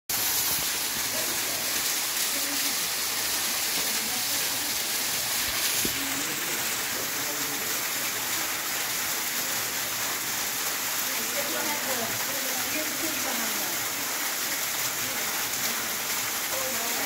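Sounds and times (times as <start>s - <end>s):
waterfall splashing: 0.1s - 17.0s.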